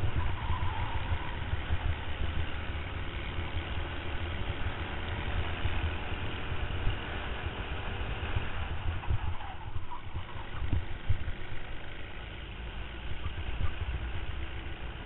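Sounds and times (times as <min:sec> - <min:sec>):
kart engine running: 0:00.0 - 0:15.0.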